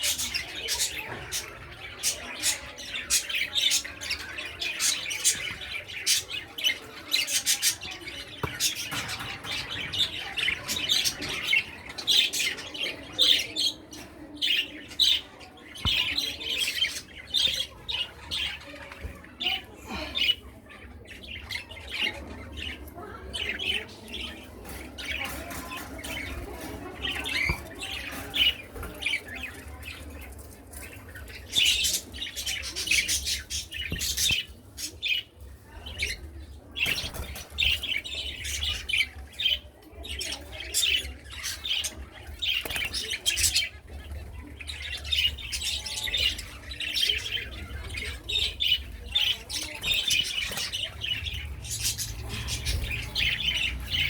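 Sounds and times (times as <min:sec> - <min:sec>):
small birds chirping and squawking: 0:00.0 - 0:54.0.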